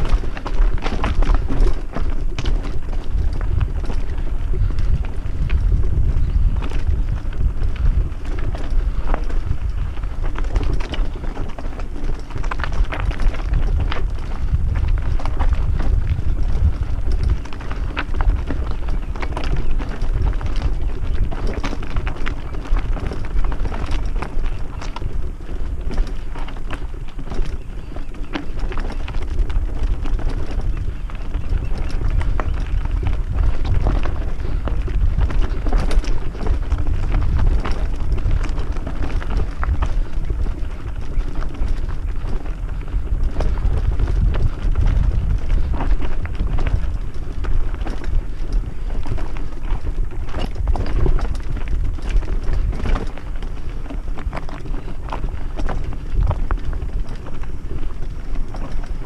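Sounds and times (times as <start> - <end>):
bike rattling: 0.0 - 59.0
tyres crunching on loose stones: 0.0 - 59.0
wind rumble on microphone: 0.0 - 59.0.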